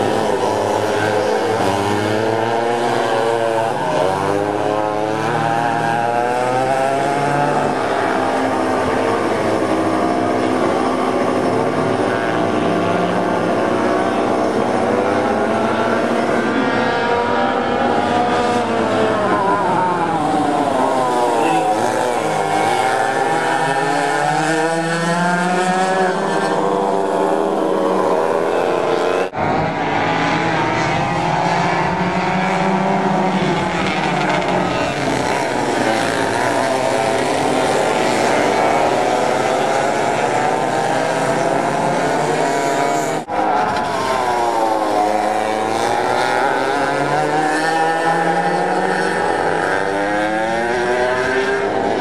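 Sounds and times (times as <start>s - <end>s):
go-kart engines racing: 0.0s - 52.0s.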